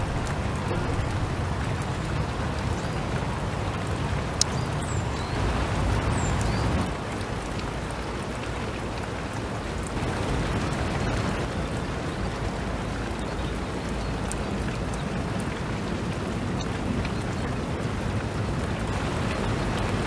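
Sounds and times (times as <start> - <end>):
steady rain hissing: 0.0 - 20.0.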